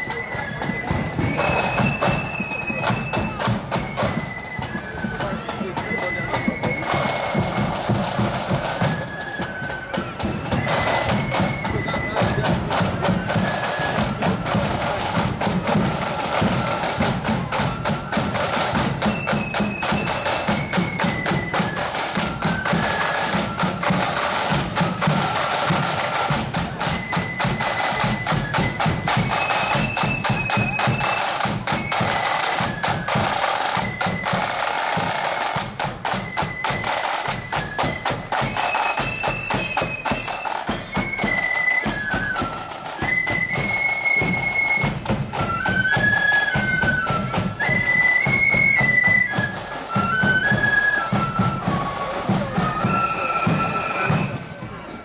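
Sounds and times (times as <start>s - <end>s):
flutes playing melody: 0.0s - 55.0s
side drums beating march rhythm: 0.0s - 55.0s.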